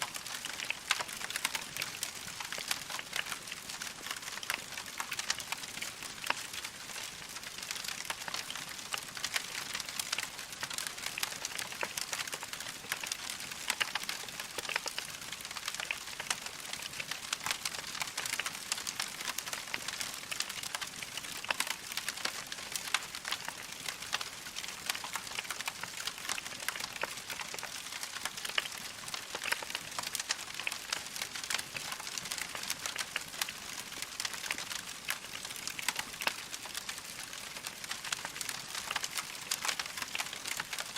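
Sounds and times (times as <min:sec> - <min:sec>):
log fire crackling: 0:00.0 - 0:40.9.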